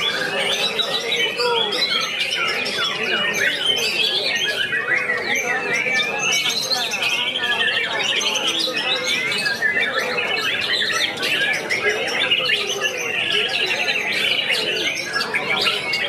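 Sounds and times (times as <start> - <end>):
birds singing in chorus: 0.0 - 16.0.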